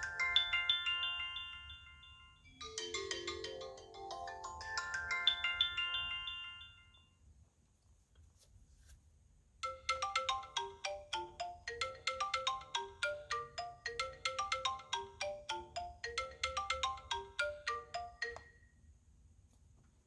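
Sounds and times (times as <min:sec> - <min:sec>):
phone ringtone melody: 0:00.0 - 0:07.2, 0:09.6 - 0:18.6.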